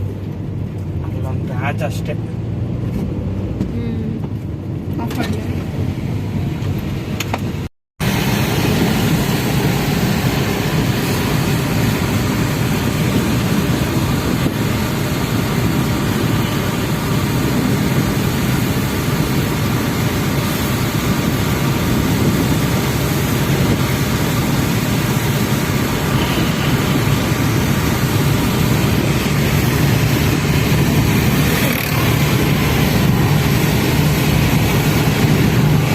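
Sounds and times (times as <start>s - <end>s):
car driving on wet road: 0.0s - 35.9s.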